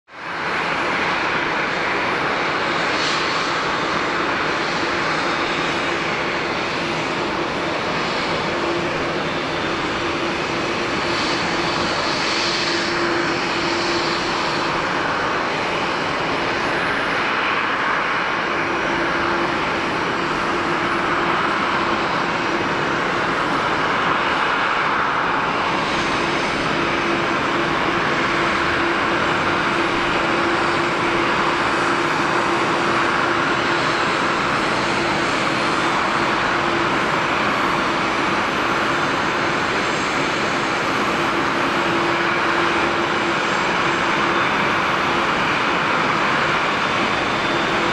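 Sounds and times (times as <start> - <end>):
jet engine whine and rush: 0.0 - 47.9.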